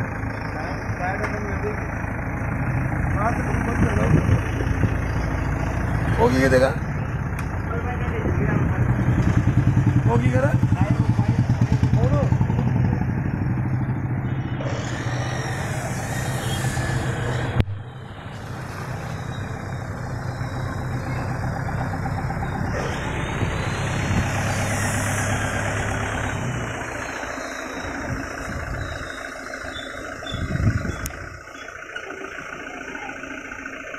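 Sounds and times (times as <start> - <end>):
vehicle engine idling: 0.0 - 33.9.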